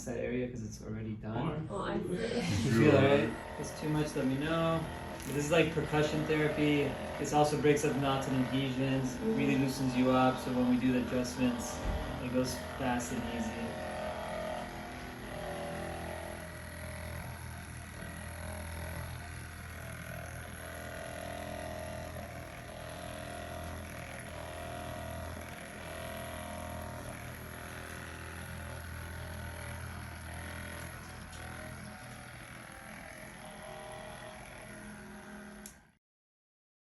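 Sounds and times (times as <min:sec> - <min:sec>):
massage gun motor buzzing: 0:00.0 - 0:36.0.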